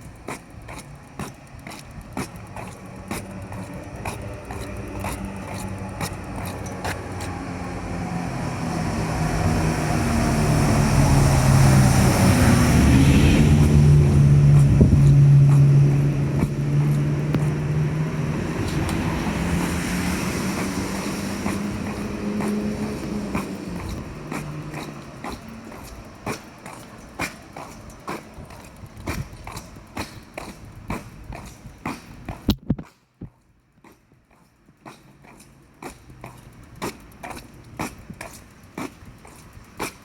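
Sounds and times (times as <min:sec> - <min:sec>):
vehicle passing: 0:00.0 - 0:32.5
low engine hum: 0:00.0 - 0:32.6.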